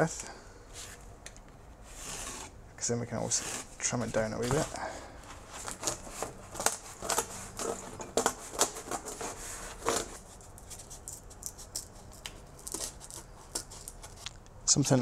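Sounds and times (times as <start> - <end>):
knife cutting cardboard: 1.8 - 14.2.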